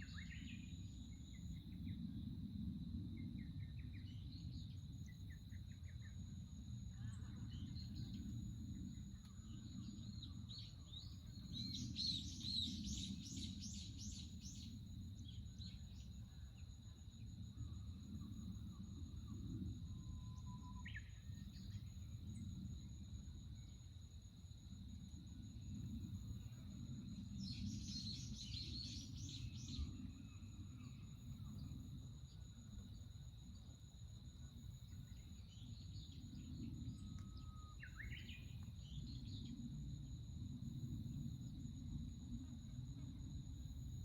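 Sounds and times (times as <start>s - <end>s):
insect drone: 0.0s - 44.0s.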